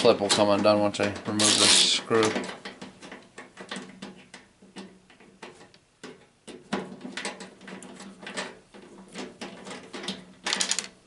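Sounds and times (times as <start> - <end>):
clicks and knocks of tools: 0.2 - 11.0.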